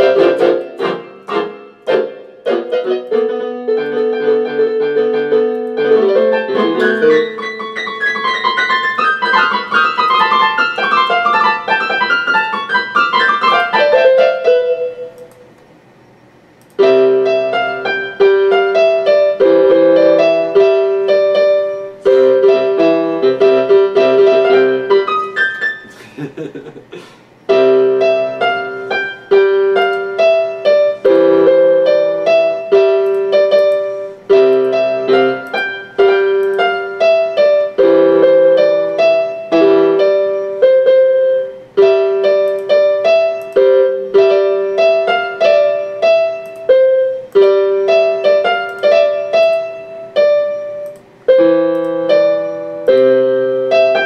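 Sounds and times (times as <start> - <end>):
electronic keyboard piano: 0.0 - 26.5, 27.3 - 54.0.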